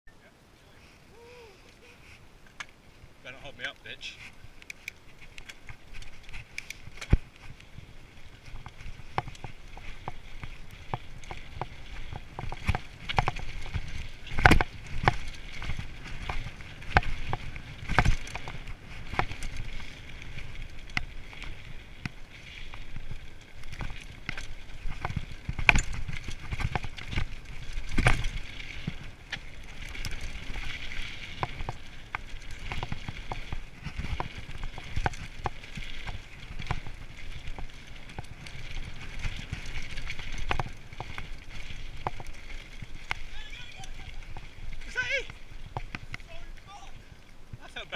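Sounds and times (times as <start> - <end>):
bike clattering and rattling: 2.4 - 47.9
tyres running on dirt: 3.1 - 47.9.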